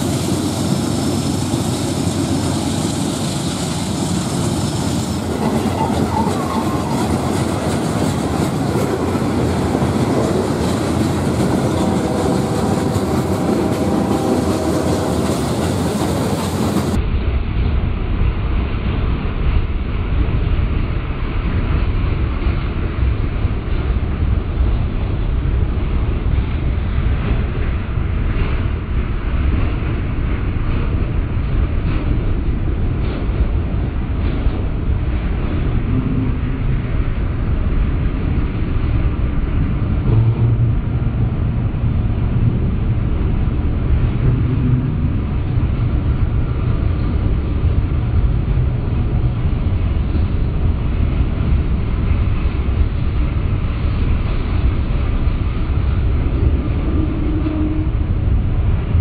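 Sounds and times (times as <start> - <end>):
train wheels rumbling and clattering: 0.0 - 59.0.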